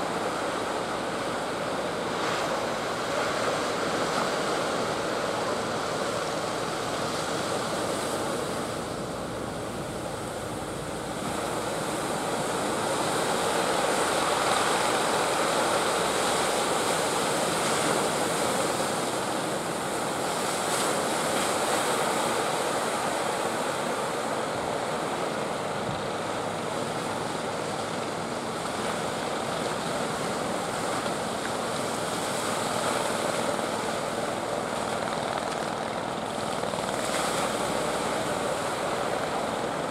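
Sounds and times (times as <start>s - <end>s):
boat engines droning: 0.0s - 39.9s
waves breaking: 0.0s - 39.9s.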